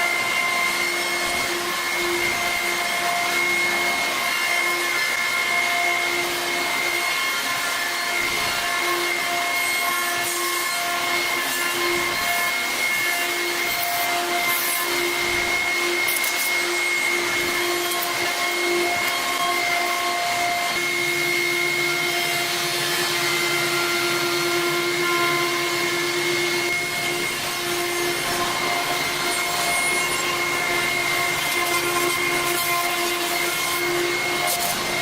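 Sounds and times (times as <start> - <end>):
router spindle cutting wood: 0.0 - 35.0.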